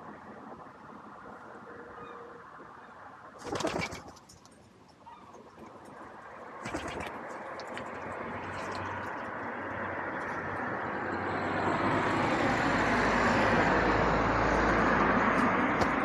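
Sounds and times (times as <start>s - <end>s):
passing vehicle engine and road noise: 0.0s - 3.4s, 4.8s - 16.0s.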